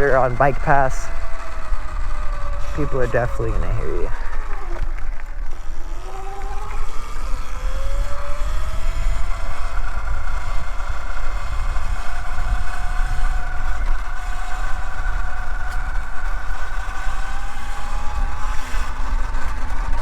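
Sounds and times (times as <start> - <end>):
electric motor whining: 0.0 - 20.0
wind rumble on microphone: 1.0 - 20.0.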